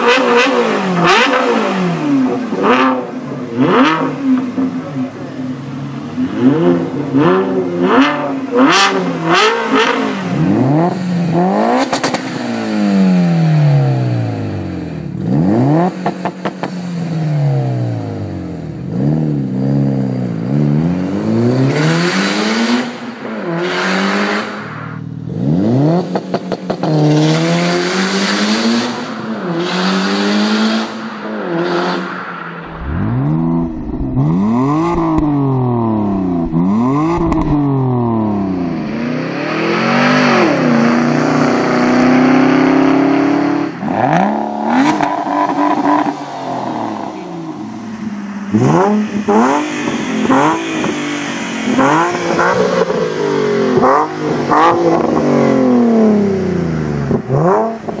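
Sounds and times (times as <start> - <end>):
second car engine revving: 0.0 - 58.0
turbocharged car engine revving: 0.0 - 58.0.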